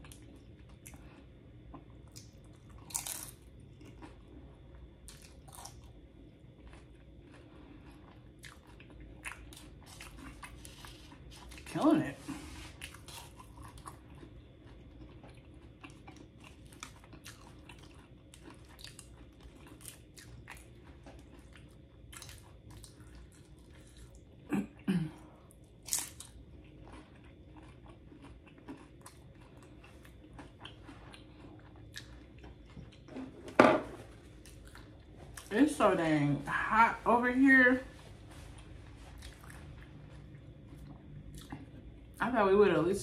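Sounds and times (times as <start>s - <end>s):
chewing crunchy chips: 0.0s - 11.9s, 12.7s - 33.1s, 34.3s - 35.5s, 39.0s - 42.2s.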